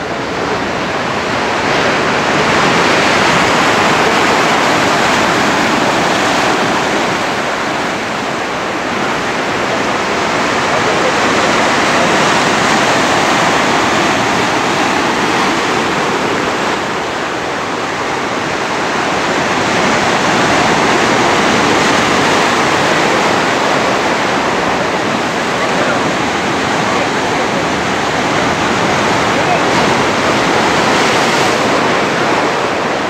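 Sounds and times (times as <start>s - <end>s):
surf breaking over boulders: 0.0s - 33.0s.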